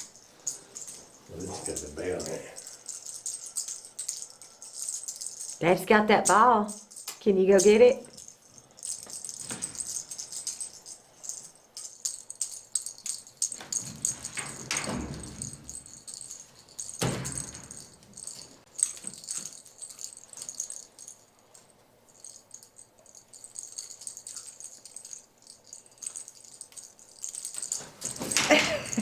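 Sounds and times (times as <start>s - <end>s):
toy ball bell jingling: 0.0s - 29.0s.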